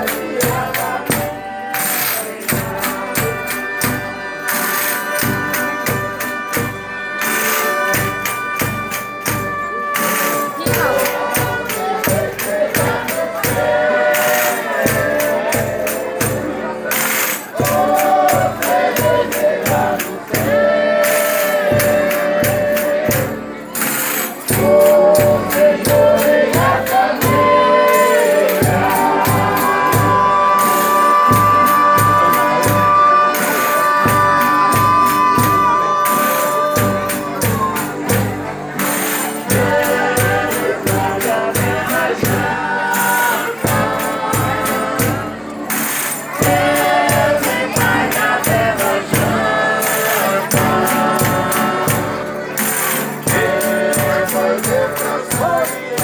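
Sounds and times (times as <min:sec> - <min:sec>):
group singing devotional song: 0:00.0 - 0:08.0, 0:09.9 - 0:56.0
guitar: 0:00.0 - 0:56.0
steady drum beat: 0:00.0 - 0:56.0
tambourine: 0:00.0 - 0:56.0.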